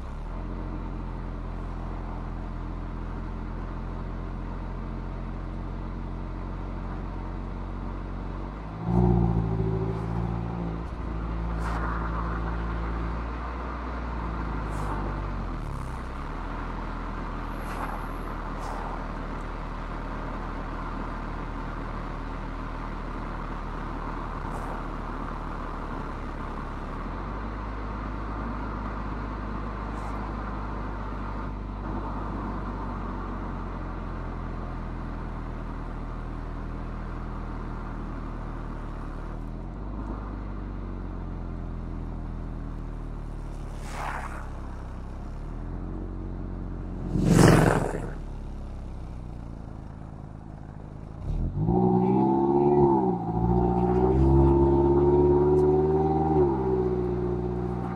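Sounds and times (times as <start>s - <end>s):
car engine and exhaust: 0.0s - 57.9s
road noise: 0.0s - 57.9s.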